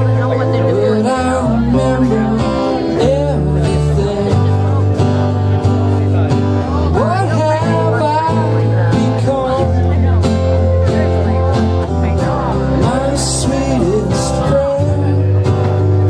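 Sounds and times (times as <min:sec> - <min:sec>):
bass guitar low notes: 0:00.0 - 0:16.0
drums keeping time: 0:00.0 - 0:16.0
electric guitar playing: 0:00.0 - 0:16.0.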